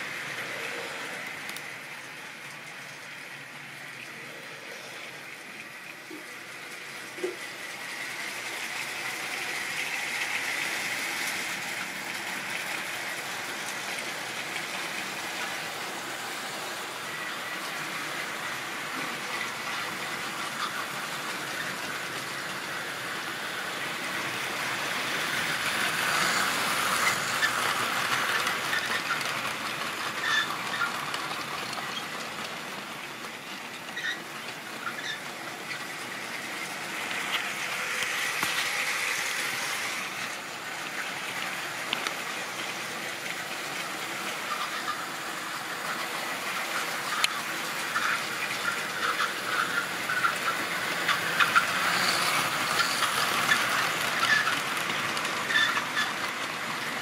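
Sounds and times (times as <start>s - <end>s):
model trains rolling rattle: 0.0s - 57.0s
wheels clicking over rail joints: 5.6s - 57.0s.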